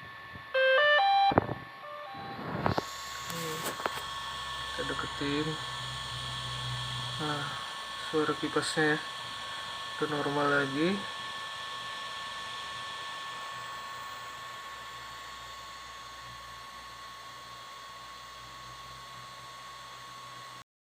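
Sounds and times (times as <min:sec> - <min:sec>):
cooling fan airy whine: 0:00.0 - 0:20.6.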